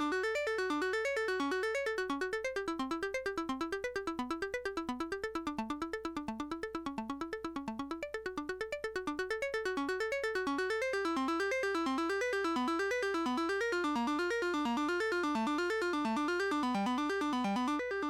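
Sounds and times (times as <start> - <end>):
modular synthesizer sequence: 0.0 - 18.0.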